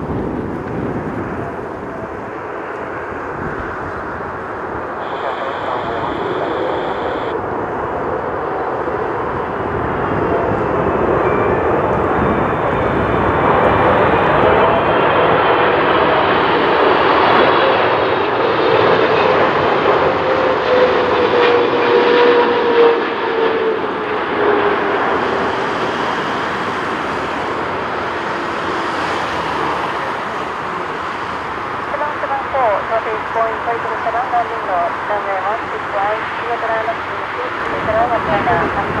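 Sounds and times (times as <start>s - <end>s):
jet airliner roar: 0.0s - 39.0s
jet engine whine: 0.0s - 39.0s.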